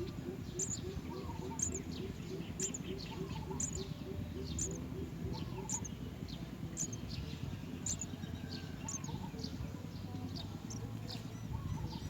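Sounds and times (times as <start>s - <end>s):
low background rumble: 0.0s - 12.0s
sparrow chirping: 0.0s - 12.0s.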